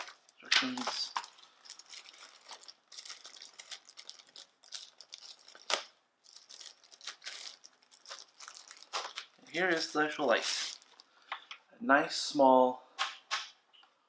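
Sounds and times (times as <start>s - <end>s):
plastic packaging crinkling and tearing: 0.0s - 11.3s.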